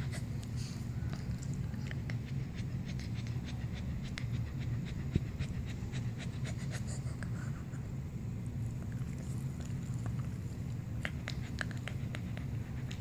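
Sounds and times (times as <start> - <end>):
dog panting: 0.0 - 8.0, 8.8 - 13.0.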